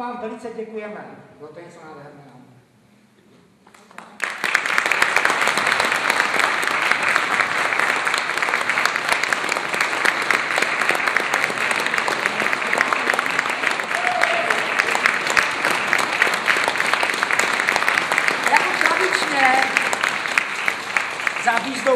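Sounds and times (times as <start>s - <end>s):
audience applauding: 3.8s - 21.9s.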